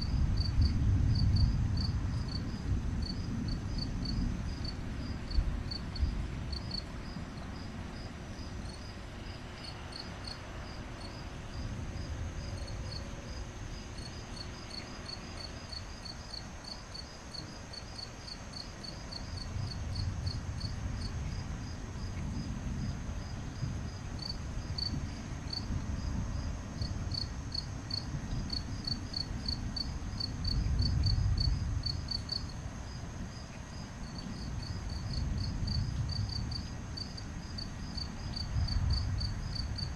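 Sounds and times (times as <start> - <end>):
crickets chirping: 0.0 - 39.9
high insect trill: 1.2 - 39.9.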